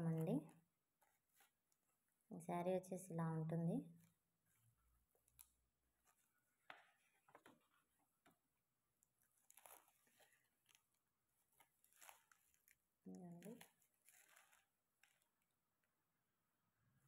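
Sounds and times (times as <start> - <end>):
fabric and plastic wrapping rustling: 0.0 - 2.3, 3.9 - 16.0.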